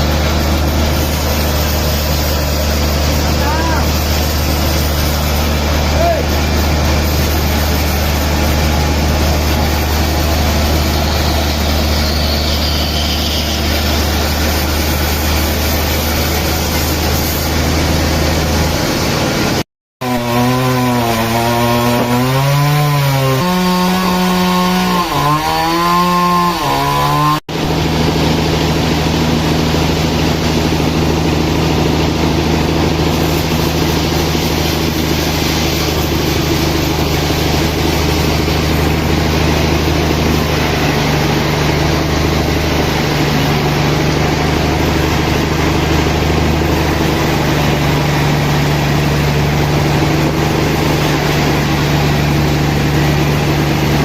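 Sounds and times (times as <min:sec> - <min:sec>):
saws cutting wood: 0:00.0 - 0:54.0.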